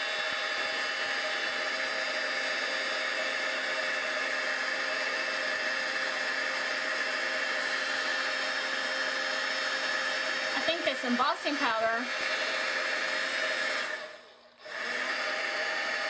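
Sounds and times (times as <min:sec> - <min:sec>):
heat gun blowing air: 0:00.0 - 0:16.0.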